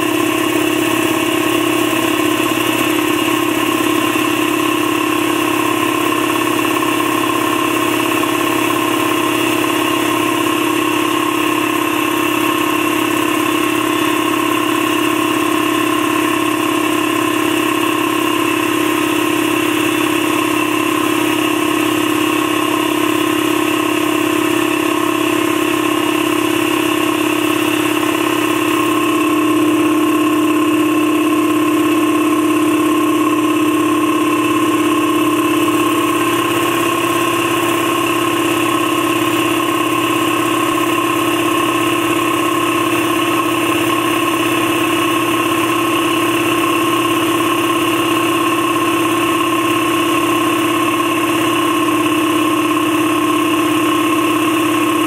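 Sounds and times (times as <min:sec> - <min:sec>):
air compressor running: 0:00.0 - 0:55.0.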